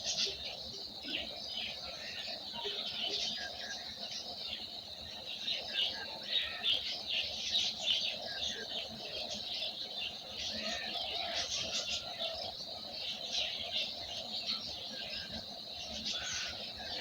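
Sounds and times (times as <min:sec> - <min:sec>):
many small birds chirping: 0:00.0 - 0:17.0.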